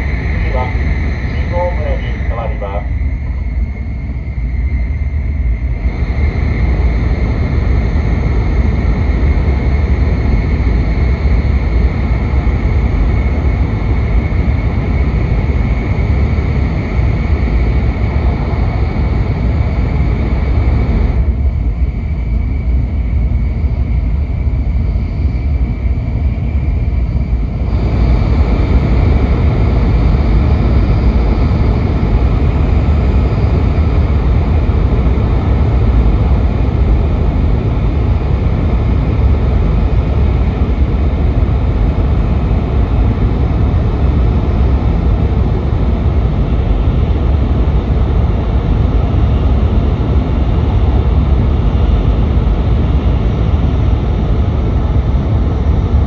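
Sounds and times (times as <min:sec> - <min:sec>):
train cabin low rumble: 0:00.0 - 0:56.0.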